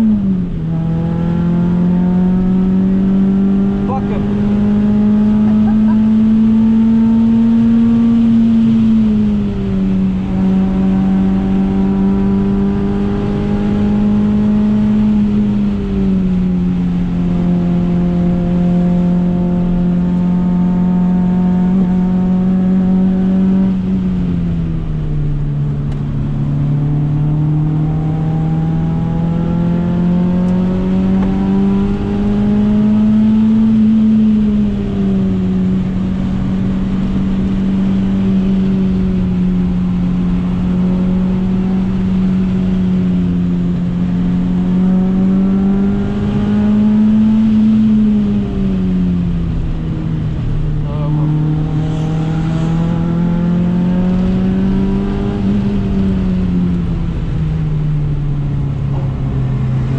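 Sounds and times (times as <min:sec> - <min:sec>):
car engine at high revs: 0:00.0 - 0:59.9
road and wind noise: 0:00.0 - 0:59.9.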